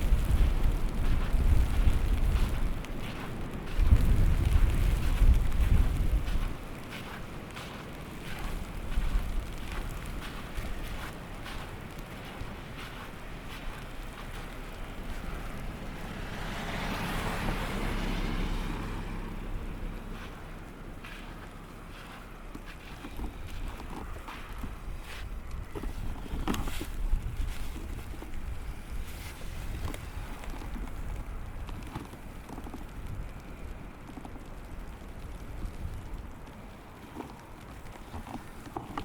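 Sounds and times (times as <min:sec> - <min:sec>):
steady wind: 0:00.0 - 0:39.0
vehicle tyre hiss on snow: 0:00.0 - 0:39.0.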